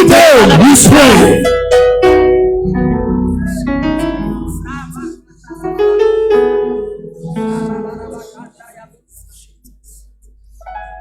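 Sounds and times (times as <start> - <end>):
electric keyboard piano chords: 0.0 - 8.7, 10.6 - 11.0.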